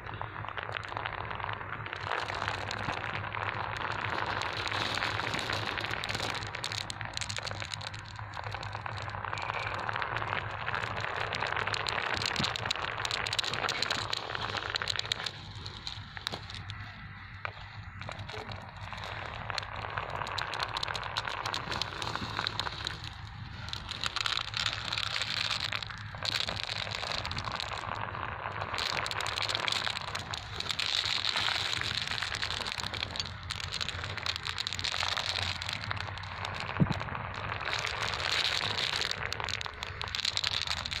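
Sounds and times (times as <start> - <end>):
marbles rolling in sand: 0.0 - 41.0.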